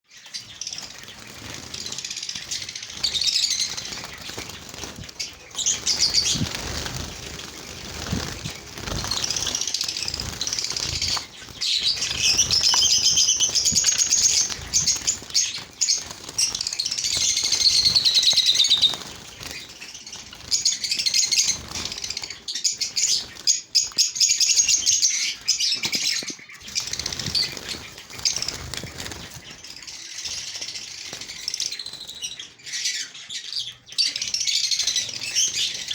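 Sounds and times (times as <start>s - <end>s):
small birds chirping: 0.0s - 35.9s
wings fluttering: 0.2s - 32.4s.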